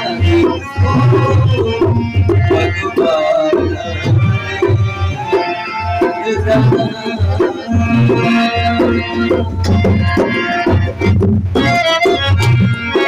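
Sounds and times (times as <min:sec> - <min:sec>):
melodic line: 0:00.0 - 0:11.2
barrel drum played by hand: 0:00.0 - 0:13.0.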